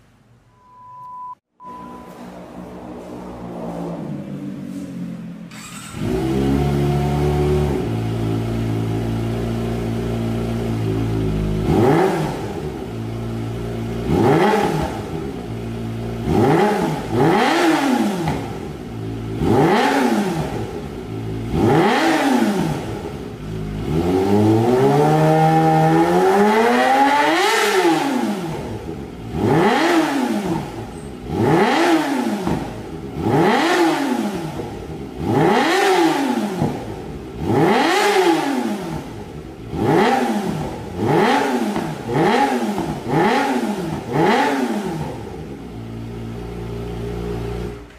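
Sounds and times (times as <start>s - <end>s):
motorcycle engine revving: 1.6s - 47.9s.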